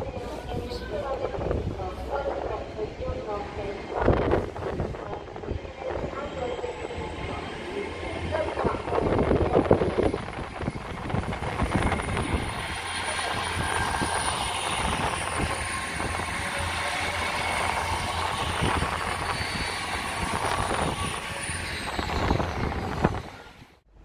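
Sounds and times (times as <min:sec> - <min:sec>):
train passing on rails: 0:00.0 - 0:23.9
high train whine: 0:00.0 - 0:24.0.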